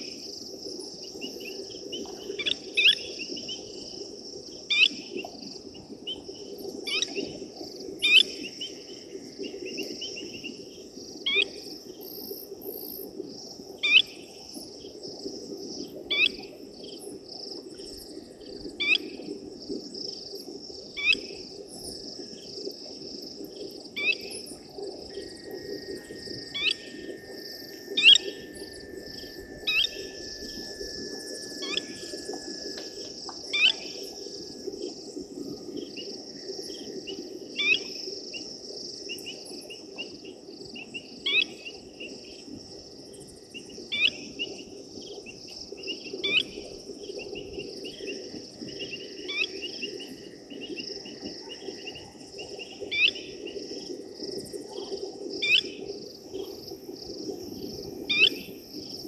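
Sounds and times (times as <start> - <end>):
insect chorus trilling: 0.0 - 59.0.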